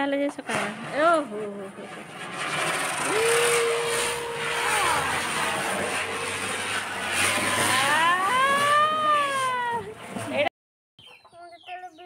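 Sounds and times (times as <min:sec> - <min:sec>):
firework hissing: 0:00.5 - 0:10.4.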